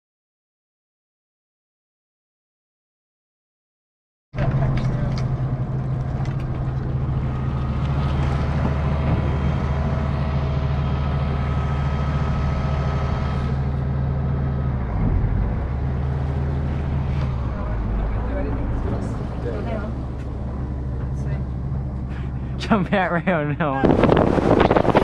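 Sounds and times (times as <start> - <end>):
outboard motor running: 4.4 - 25.0.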